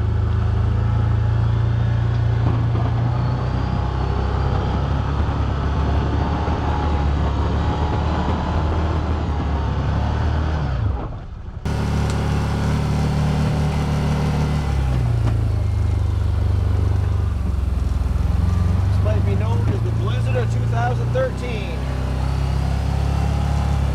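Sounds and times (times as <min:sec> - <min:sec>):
v-twin engine running: 0:00.0 - 0:09.8, 0:11.7 - 0:23.9.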